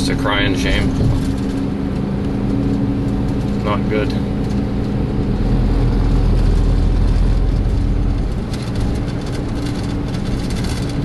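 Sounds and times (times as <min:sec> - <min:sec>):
faint crackle and buffeting: 0:00.0 - 0:11.0
vehicle engine rumbling: 0:00.0 - 0:11.0.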